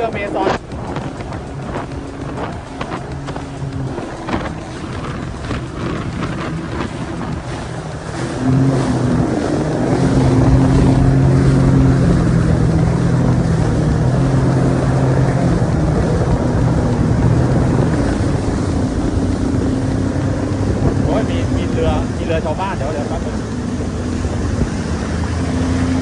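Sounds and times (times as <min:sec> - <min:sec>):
watercraft engine droning: 0:00.0 - 0:26.0
wind and water noise: 0:00.0 - 0:26.0.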